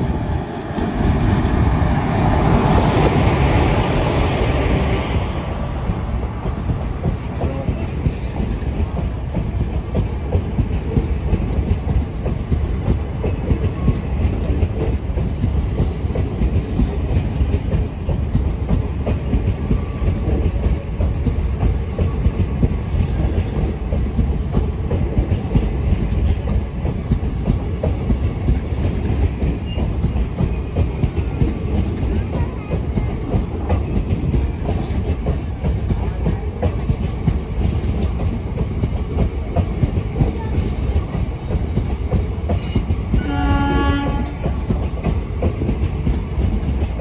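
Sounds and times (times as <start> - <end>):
train low rumble: 0.0 - 47.0.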